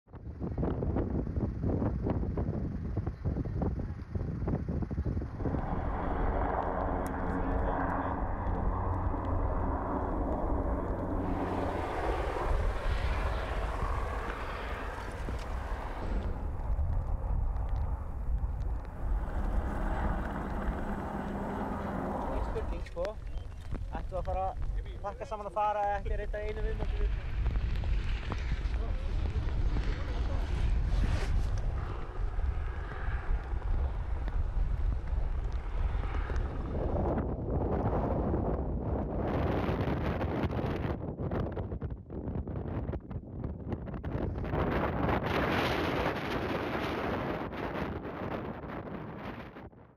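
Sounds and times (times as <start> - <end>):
low rumble: 0.1 - 49.7
wind buffeting microphone: 0.1 - 49.9
lava crackling over grass: 4.3 - 40.9, 43.8 - 48.9.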